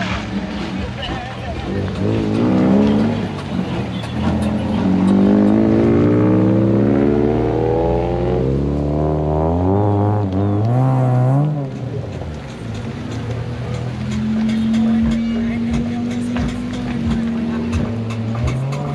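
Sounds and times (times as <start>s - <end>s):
car engines accelerating past: 0.0s - 18.9s
low engine rumble: 0.0s - 18.9s.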